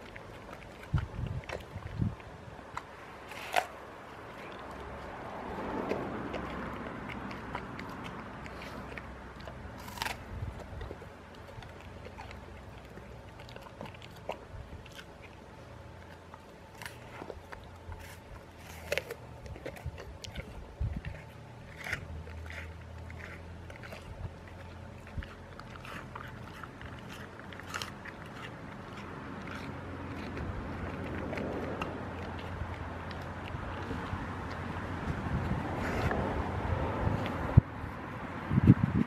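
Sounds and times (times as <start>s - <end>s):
dog crunching apple: 0.0s - 38.6s.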